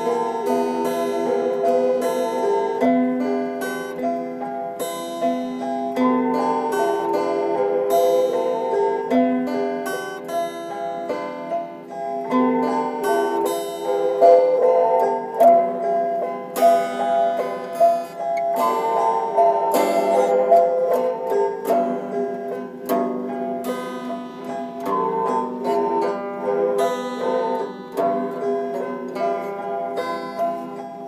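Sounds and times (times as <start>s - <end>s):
plucked string instrument melody: 0.0s - 31.0s.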